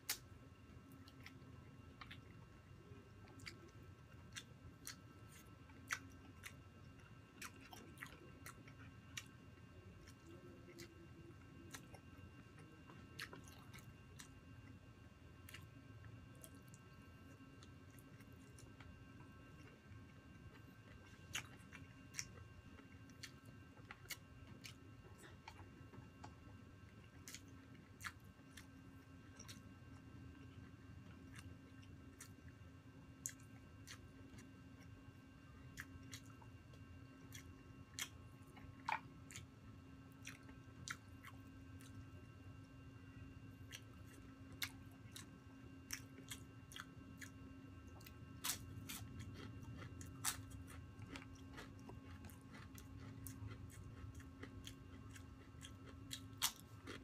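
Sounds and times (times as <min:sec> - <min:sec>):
crunches of chewing: 0:00.0 - 0:57.0.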